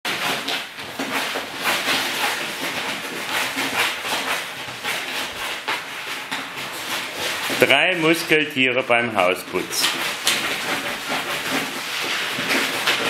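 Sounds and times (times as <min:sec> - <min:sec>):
litter rustling: 0:00.1 - 0:13.0
puppies scratching and digging: 0:00.1 - 0:13.0.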